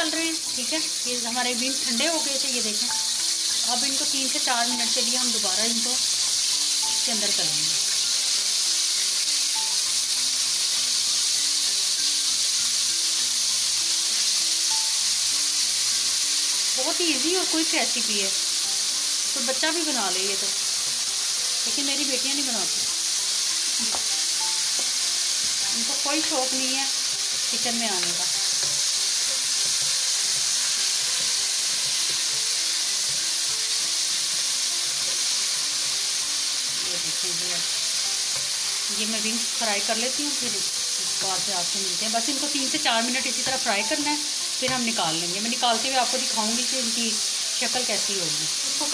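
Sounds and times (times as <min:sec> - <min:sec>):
chicken wings deep-frying in oil: 0:00.0 - 0:48.9.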